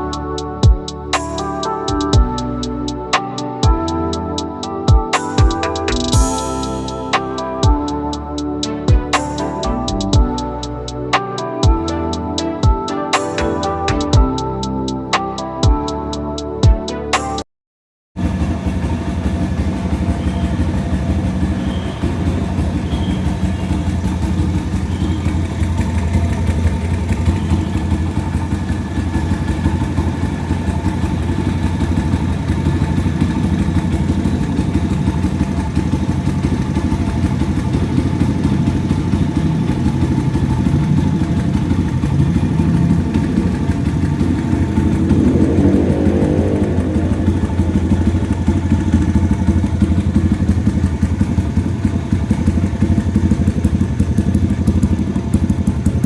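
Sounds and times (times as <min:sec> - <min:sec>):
motorbike engine idling: 0:00.0 - 0:16.8, 0:18.2 - 0:56.0.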